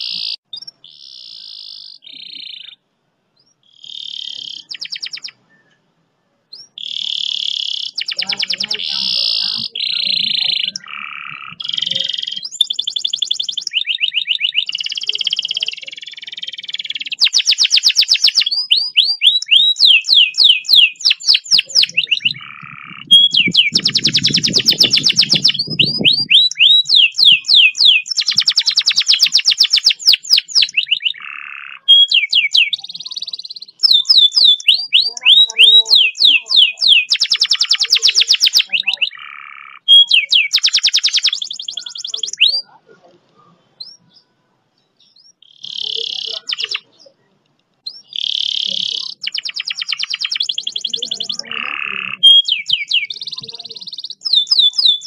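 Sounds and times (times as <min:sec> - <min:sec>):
canary singing: 0:00.0 - 0:05.9, 0:06.5 - 0:55.0.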